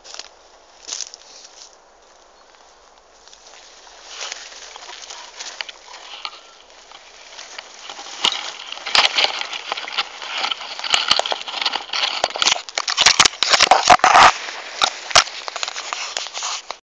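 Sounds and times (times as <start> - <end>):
dry leaves and twigs crunching: 0.0 - 16.8.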